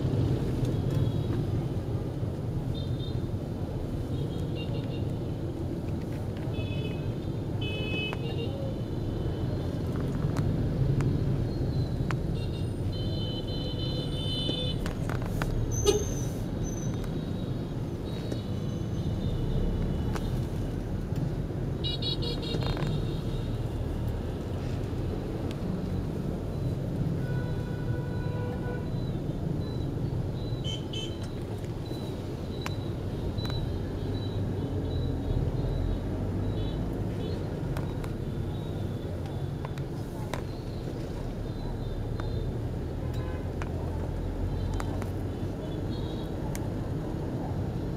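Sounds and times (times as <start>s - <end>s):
car engine and road noise: 0.0s - 47.9s
street traffic rumble: 0.0s - 47.9s.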